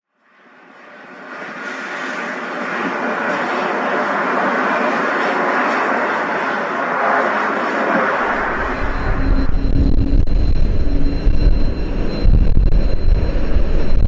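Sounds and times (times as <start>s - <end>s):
jet engines running: 0.4s - 14.0s.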